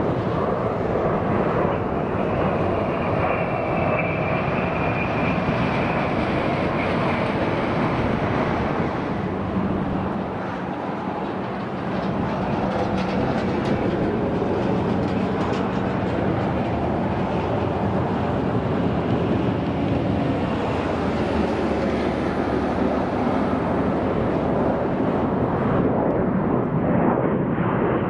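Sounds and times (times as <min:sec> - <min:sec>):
aircraft engines rumbling: 0:00.0 - 0:28.0.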